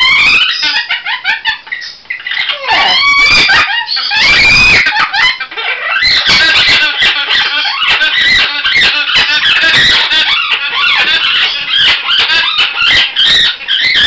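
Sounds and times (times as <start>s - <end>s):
parrot squawking and screeching: 0.0s - 14.0s.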